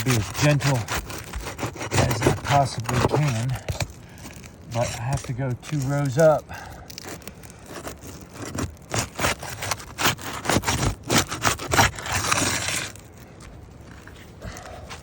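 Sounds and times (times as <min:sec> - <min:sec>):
tool scraping roof shingles: 0:00.0 - 0:13.3.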